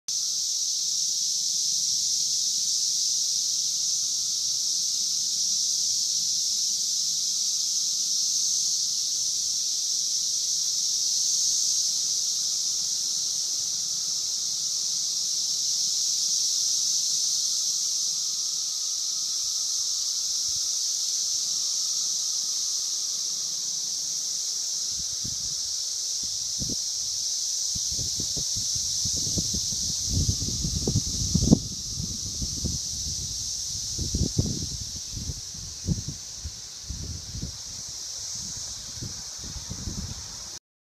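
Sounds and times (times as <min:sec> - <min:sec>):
cicadas droning: 0:00.1 - 0:40.6.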